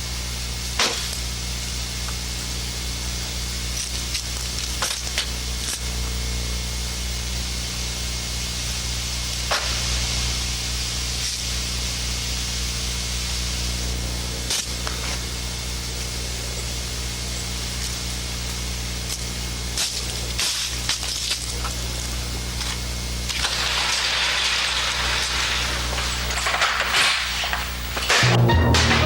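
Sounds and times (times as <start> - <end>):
low electrical hum: 0.0 - 29.0
tape hiss: 0.0 - 29.0.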